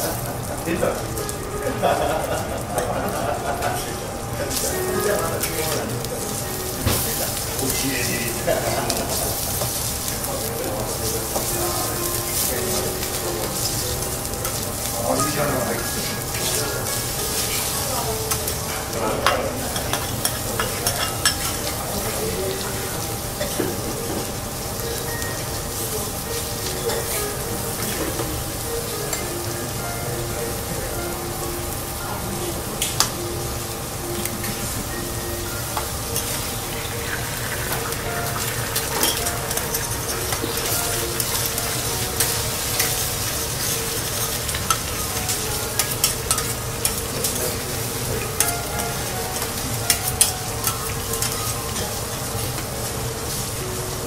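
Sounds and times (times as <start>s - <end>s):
meat and eggs sizzling on griddle: 0.0s - 54.0s.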